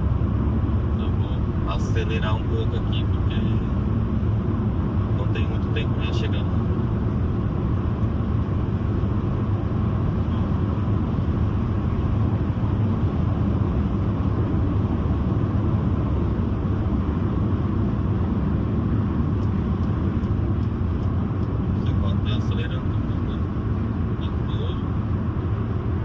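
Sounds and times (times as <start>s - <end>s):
car interior road noise: 0.0s - 26.0s.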